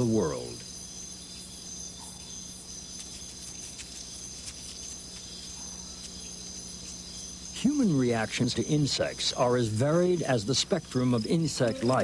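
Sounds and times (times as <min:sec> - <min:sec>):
faint low hum: 0:00.0 - 0:12.0
insect chorus chirring: 0:00.0 - 0:12.0.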